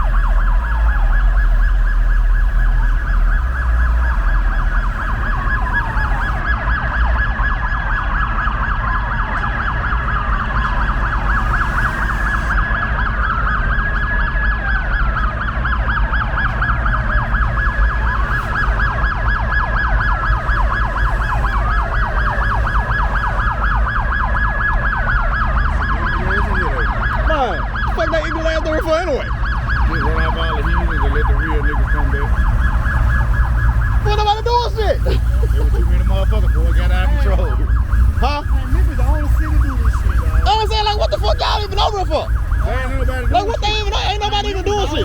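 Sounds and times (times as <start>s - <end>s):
police siren wailing: 0.0s - 45.0s
siren warbling yelp: 0.0s - 45.0s.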